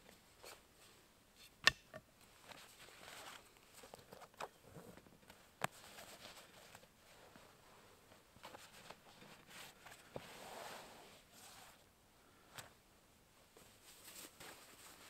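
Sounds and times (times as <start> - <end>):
rustling of canvas and clothing: 2.2 - 15.0.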